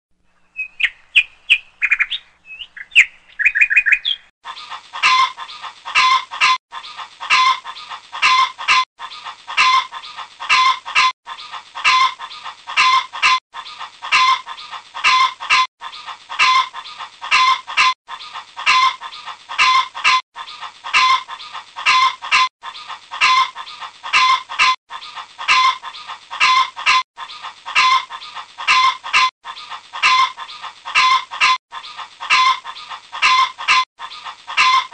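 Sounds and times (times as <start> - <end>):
chicken clucking and chirping: 0.3 - 34.9.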